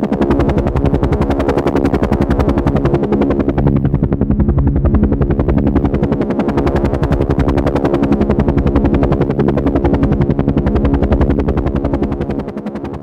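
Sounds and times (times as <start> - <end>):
helicopter engine hum: 0.0 - 13.0
helicopter rotor beating: 0.0 - 13.0.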